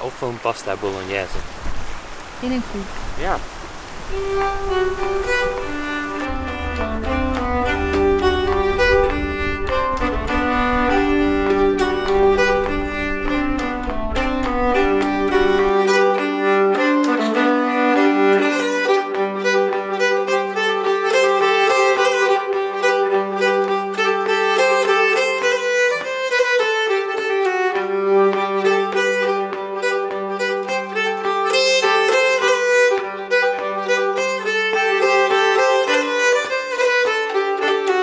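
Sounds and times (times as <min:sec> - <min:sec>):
violin background music: 0:00.0 - 0:01.3, 0:03.9 - 0:38.0.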